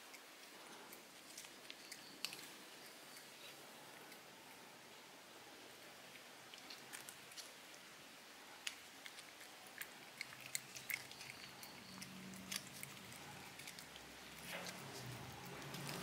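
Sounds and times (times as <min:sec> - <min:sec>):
kitten licking and chewing: 0:00.0 - 0:04.4, 0:05.7 - 0:16.0.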